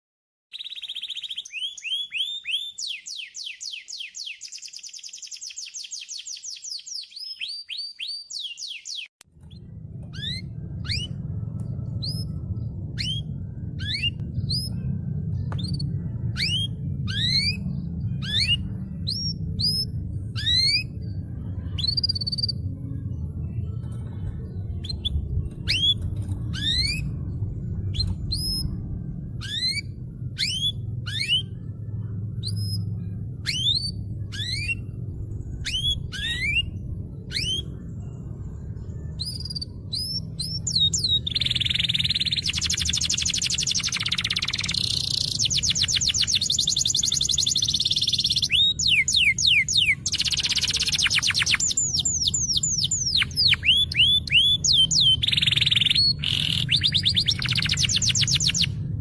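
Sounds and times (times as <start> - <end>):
canary singing: 0.5 - 22.8, 24.8 - 59.0
steady low hum: 9.2 - 59.0.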